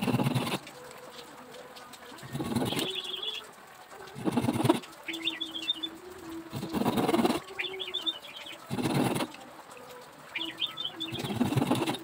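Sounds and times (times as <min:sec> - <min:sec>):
birds chirping and cooing: 0:00.0 - 0:12.0.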